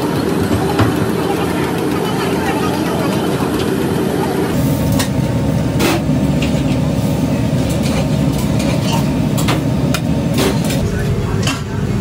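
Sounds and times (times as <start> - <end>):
gas burners rumbling: 0.0 - 12.0.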